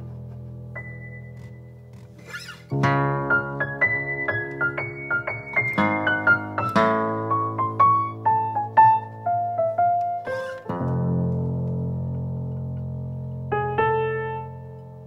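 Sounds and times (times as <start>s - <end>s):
keyboard melody over chords: 2.8s - 15.0s.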